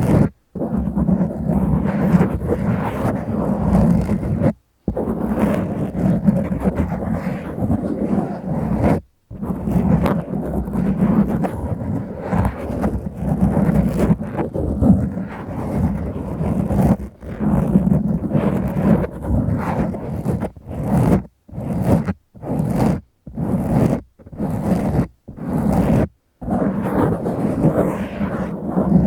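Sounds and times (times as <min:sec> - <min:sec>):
fingers scratching foam windscreen: 0:00.0 - 0:29.0.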